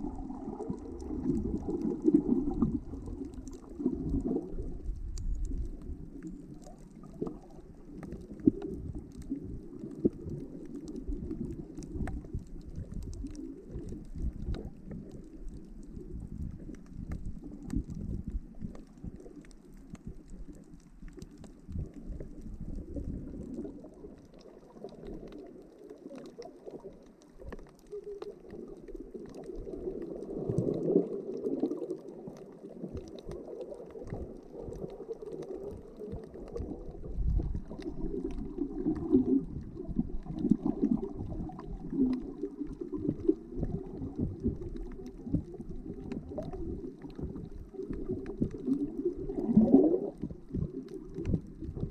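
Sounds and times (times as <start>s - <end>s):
underwater gurgling and sloshing: 0.0s - 51.9s.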